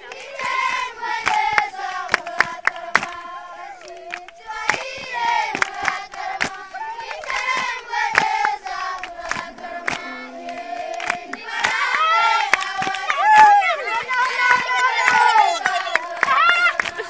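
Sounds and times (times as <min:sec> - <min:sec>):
children singing together: 0:00.0 - 0:17.0
sharp hand claps: 0:00.1 - 0:17.0.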